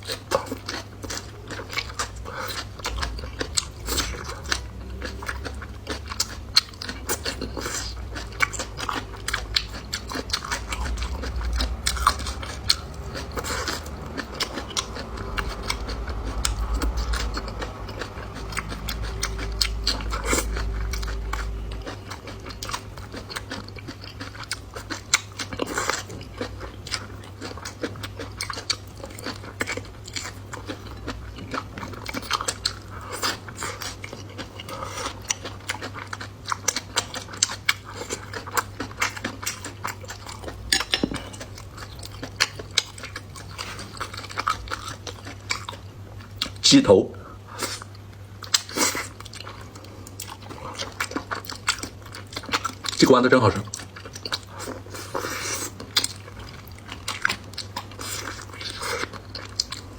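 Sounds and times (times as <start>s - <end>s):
chewing and crunching food: 0.0s - 59.9s
steady low hum: 0.0s - 59.9s.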